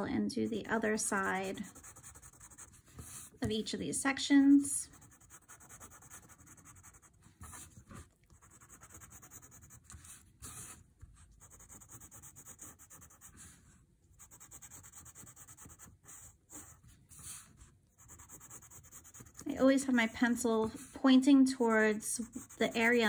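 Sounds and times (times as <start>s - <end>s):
pencil scratching on paper: 0.8s - 3.5s, 4.9s - 21.0s, 21.6s - 23.0s.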